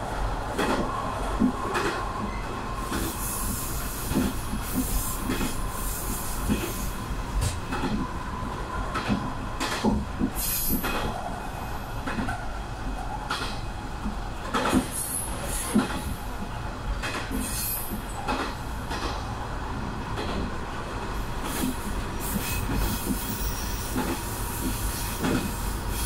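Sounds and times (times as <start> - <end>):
railcar low rumble: 0.0 - 26.0.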